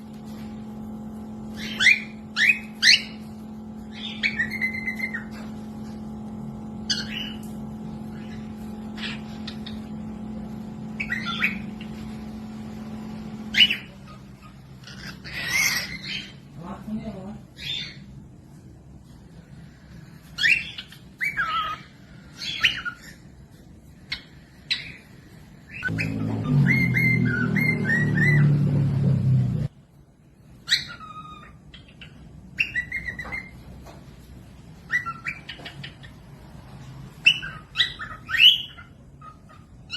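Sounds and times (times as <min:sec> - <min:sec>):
cockatiels calling: 0:00.0 - 0:18.2, 0:19.8 - 0:29.7, 0:30.5 - 0:34.0, 0:34.6 - 0:39.9
low steady hum: 0:00.0 - 0:39.9.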